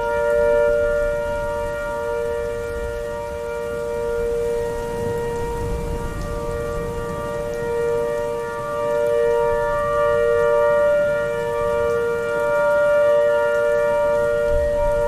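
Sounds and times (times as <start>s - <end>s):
low rain-like noise: 0.0s - 15.0s
two-tone warning siren: 0.0s - 15.0s.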